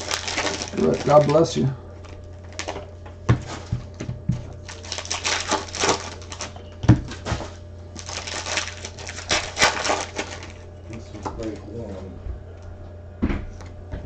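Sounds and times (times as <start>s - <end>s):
cards and wrappers rustling: 0.0s - 12.0s.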